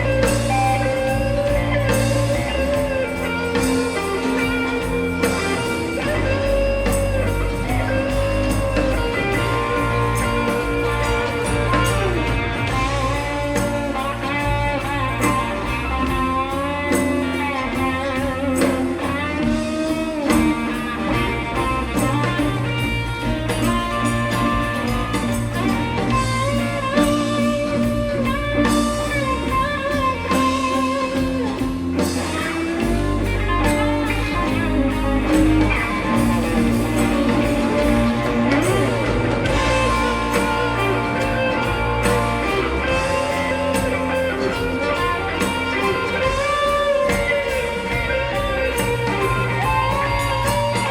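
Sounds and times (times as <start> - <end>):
bass: 0.0 - 50.9
drums: 0.0 - 50.9
lead electric guitar bent notes: 0.0 - 50.9.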